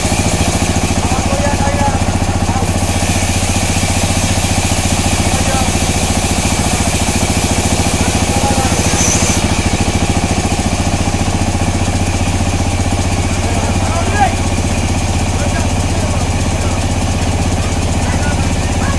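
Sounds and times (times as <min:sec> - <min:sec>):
sawmill engine pulsing: 0:00.0 - 0:18.9.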